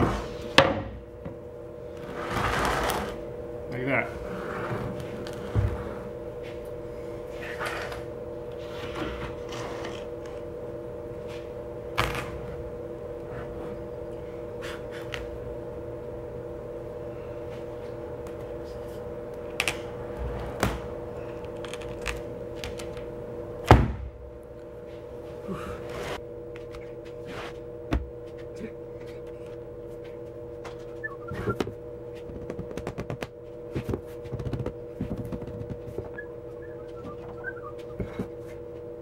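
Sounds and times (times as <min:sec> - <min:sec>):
background hum: 0:00.0 - 0:39.0.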